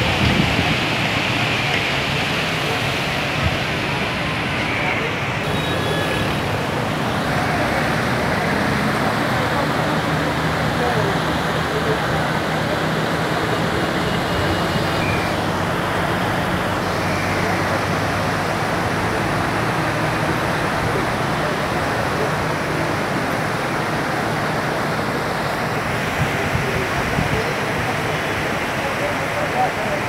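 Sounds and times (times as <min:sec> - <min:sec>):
low hum of road traffic: 0:00.0 - 0:30.0
river water rushing over rocks: 0:00.0 - 0:30.0.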